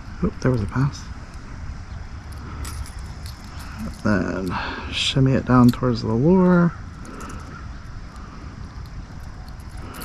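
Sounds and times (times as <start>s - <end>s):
fishing line clicks and rustles: 0.0s - 10.0s
wind rumbling on microphone: 0.0s - 10.0s.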